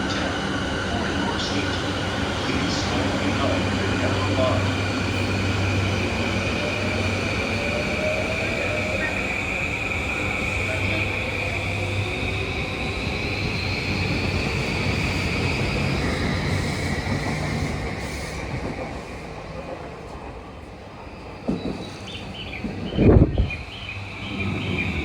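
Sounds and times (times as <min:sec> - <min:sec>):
train pulling in with high whine: 0:00.0 - 0:25.0.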